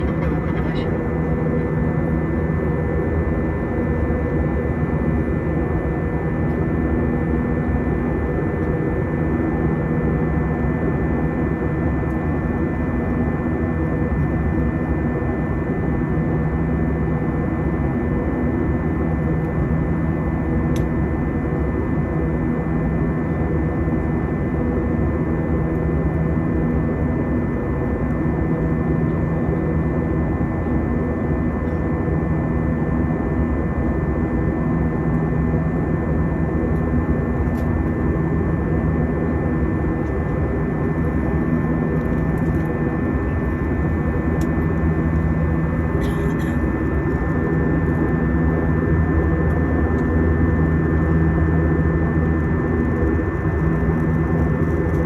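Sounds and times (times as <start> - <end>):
steady engine drone: 0.0 - 55.0.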